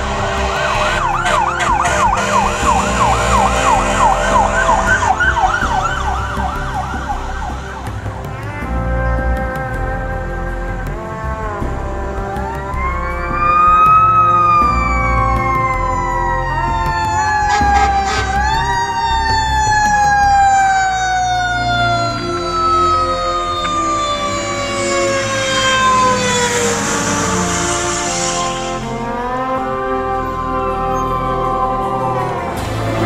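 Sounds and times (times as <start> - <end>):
fire engine siren: 0.0 - 8.6, 12.2 - 33.0
horn blasts: 0.0 - 33.0
truck engine rumble: 0.0 - 33.0.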